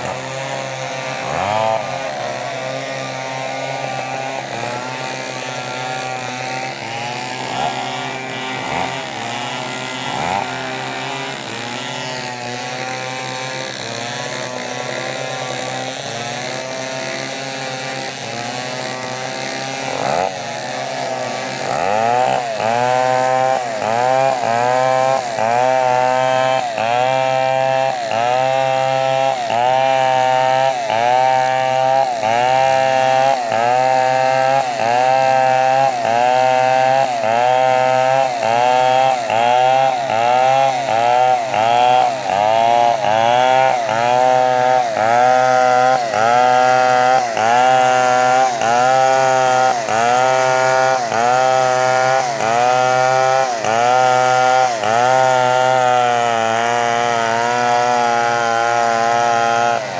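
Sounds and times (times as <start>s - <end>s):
chainsaw cutting palm trunk: 0.0s - 59.9s.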